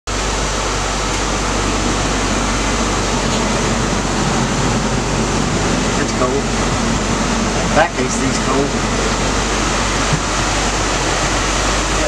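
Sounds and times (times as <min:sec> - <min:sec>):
blower fan rushing air: 0:00.1 - 0:12.0
low constant hum: 0:00.1 - 0:12.0.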